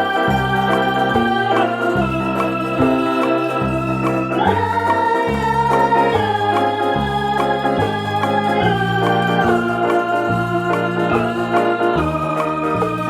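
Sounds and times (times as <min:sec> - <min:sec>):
bass line: 0:00.0 - 0:13.0
keyboard chords: 0:00.0 - 0:13.0.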